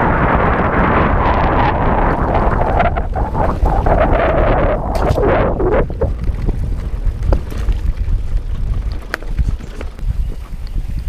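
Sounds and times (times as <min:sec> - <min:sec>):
bike rattling over bumps: 0:00.0 - 0:11.0
wind buffeting microphone: 0:00.0 - 0:11.0.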